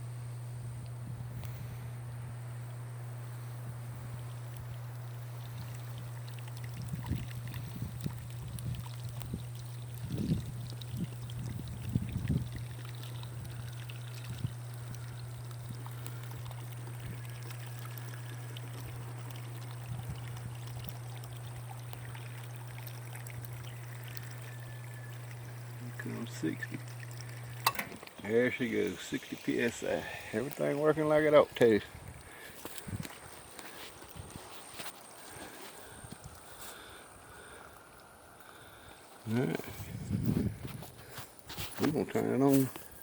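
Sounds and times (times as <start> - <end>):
pump humming: 0.0 - 43.0
water running through pipes: 3.1 - 43.0.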